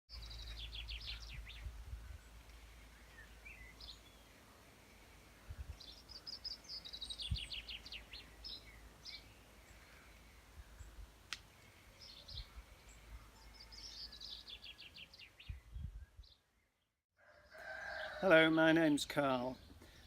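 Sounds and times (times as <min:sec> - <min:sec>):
songbird singing: 0:00.1 - 0:20.0.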